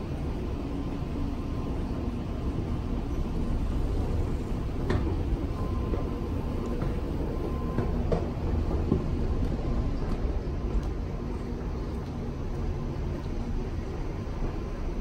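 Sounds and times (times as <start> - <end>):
low machinery rumble: 0.0 - 15.0.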